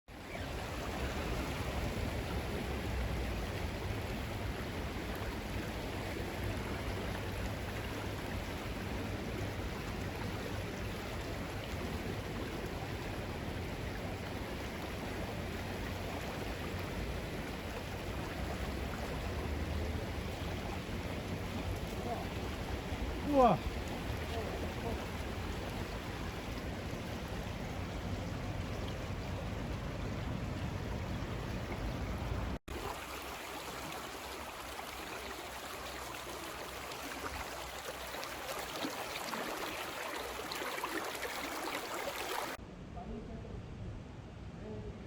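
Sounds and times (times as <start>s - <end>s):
flowing creek water: 0.1s - 42.6s.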